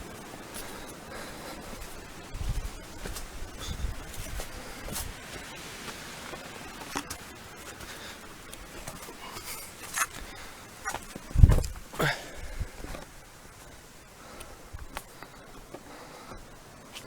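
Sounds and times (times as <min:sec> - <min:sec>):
wind hiss on microphone: 0:00.0 - 0:15.6
low wind buffets: 0:00.0 - 0:17.0.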